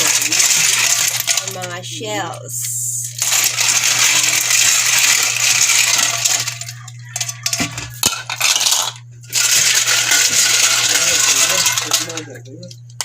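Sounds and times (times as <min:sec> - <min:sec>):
low hum: 0:00.0 - 0:13.0
shells clattering in a basin: 0:00.0 - 0:13.0.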